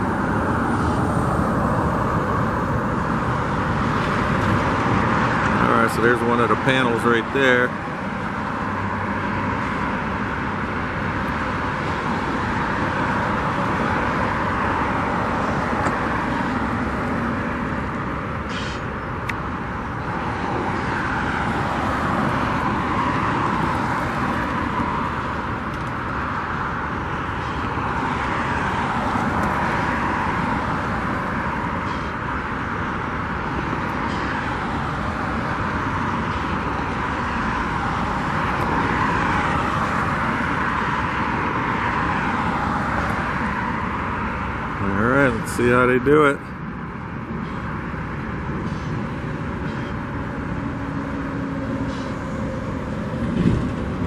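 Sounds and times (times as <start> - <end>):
road traffic: 0.0 - 54.0
trucks and cars passing: 0.0 - 54.0.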